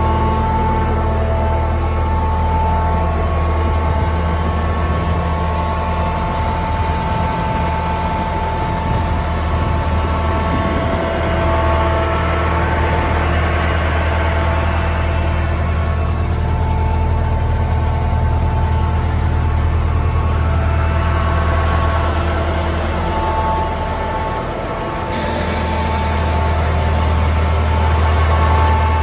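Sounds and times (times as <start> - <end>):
crane engine idling: 0.0 - 29.0.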